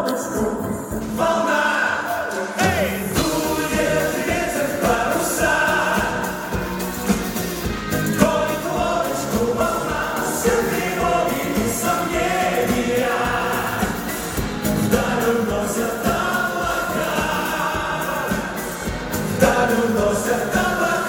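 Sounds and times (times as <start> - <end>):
group singing with instruments: 0.0 - 21.0.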